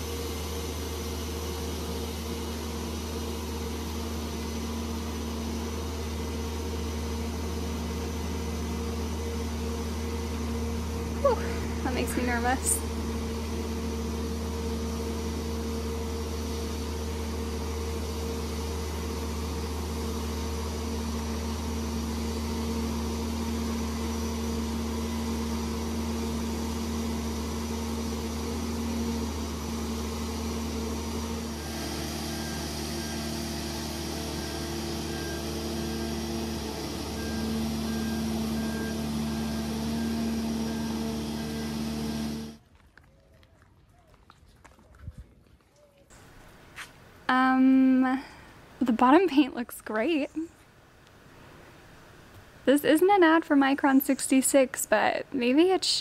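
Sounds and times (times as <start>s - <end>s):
boat lift engine drone: 0.0s - 42.6s, 46.2s - 56.0s.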